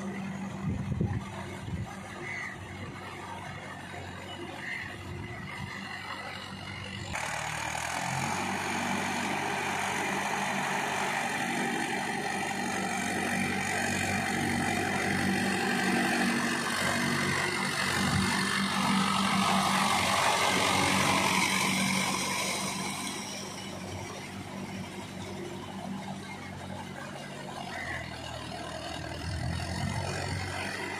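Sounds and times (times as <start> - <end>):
tiller churning mud and water: 0.0 - 30.9
tractor diesel engine running: 0.0 - 30.9.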